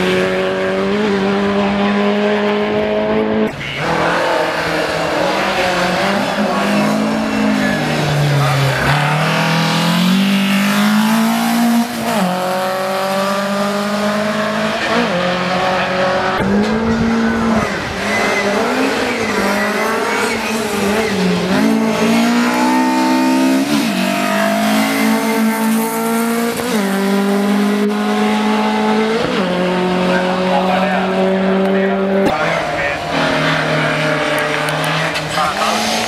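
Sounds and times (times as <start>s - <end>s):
rally car engine accelerating: 0.0s - 36.0s.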